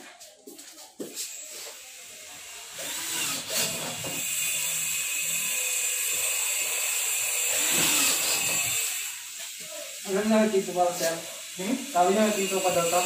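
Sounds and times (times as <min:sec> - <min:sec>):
power tool motor whining: 0:01.3 - 0:13.0.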